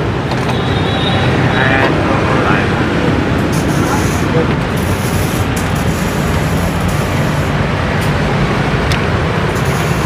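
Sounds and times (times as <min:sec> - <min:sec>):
passing street traffic: 0:00.0 - 0:10.0.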